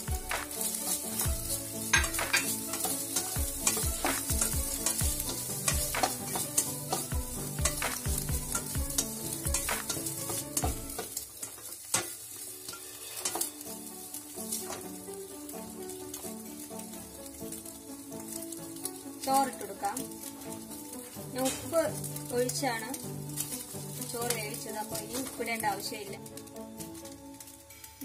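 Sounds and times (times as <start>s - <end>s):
spoon scraping and knocking pan: 0.0s - 27.6s
food sizzling in a pan: 0.0s - 28.0s.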